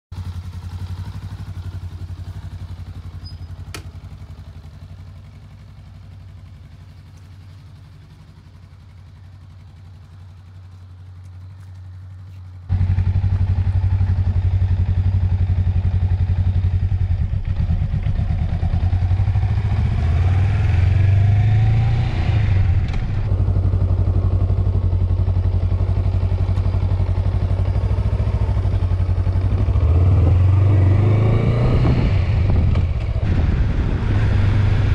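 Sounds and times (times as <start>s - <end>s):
motorcycle engine idling: 0.1s - 31.2s.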